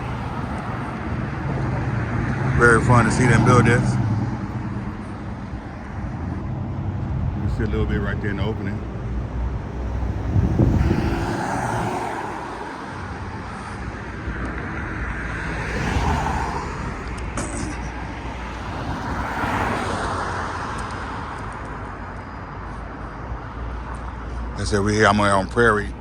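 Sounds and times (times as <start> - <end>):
cars passing by: 0.0 - 26.0.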